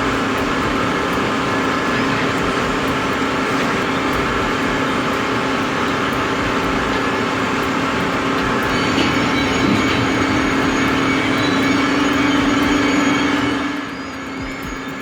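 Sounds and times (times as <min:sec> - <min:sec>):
heavy machine running: 0:00.0 - 0:15.0.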